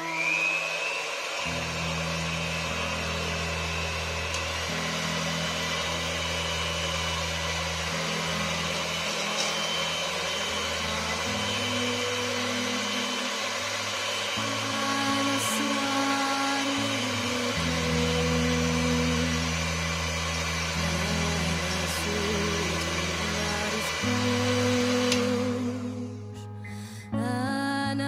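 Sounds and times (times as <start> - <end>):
electric hand mixer whisking: 0.0 - 26.1
background music: 1.4 - 28.0.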